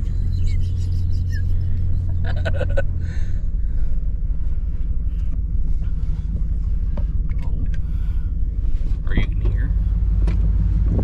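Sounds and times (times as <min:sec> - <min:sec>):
road rumble: 0:00.0 - 0:11.0
truck engine: 0:00.0 - 0:11.0.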